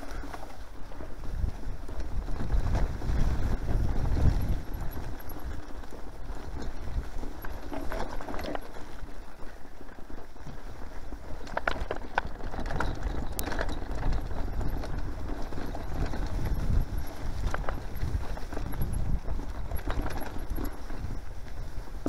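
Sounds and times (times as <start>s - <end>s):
bike rattling and knocking: 0.0s - 22.0s
bike tyres rumbling over turf: 0.0s - 22.0s.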